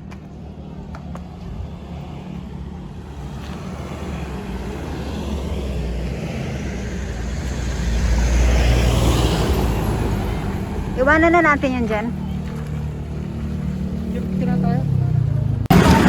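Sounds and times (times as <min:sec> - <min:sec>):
road noise rumbling: 0:00.0 - 0:16.0
vehicle engine approaching: 0:00.0 - 0:16.0.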